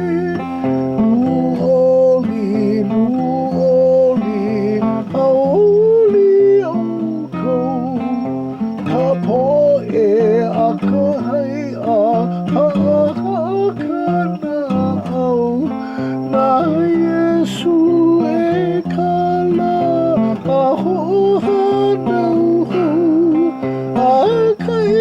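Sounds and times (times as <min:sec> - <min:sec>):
acoustic guitar: 0:00.0 - 0:25.0
person singing a hymn: 0:00.0 - 0:25.0.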